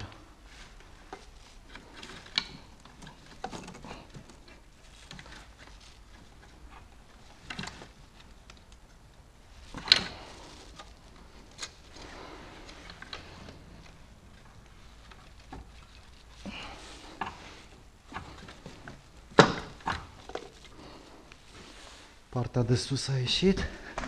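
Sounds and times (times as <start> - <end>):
hands clicking and rustling on engine: 0.0 - 21.6.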